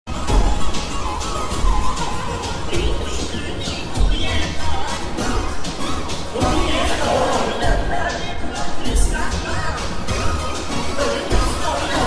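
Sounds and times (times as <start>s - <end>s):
music with heavy bass beat: 0.1s - 12.0s
person singing wavering melody: 1.0s - 12.0s.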